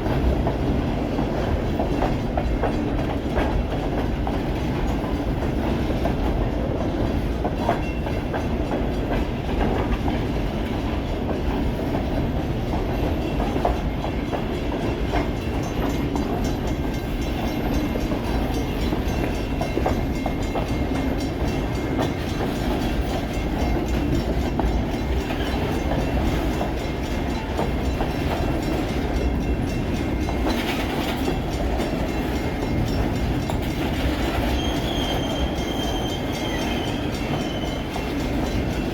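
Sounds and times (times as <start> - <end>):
freight train rumbling past: 0.0 - 38.9
wheels clicking over rail joints: 0.1 - 38.9.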